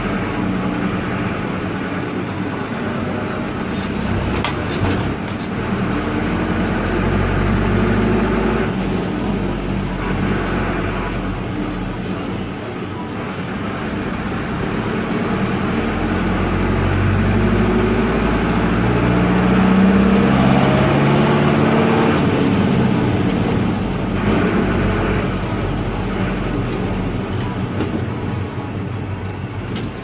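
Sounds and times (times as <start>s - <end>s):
diesel engine running noisily: 0.0s - 30.0s.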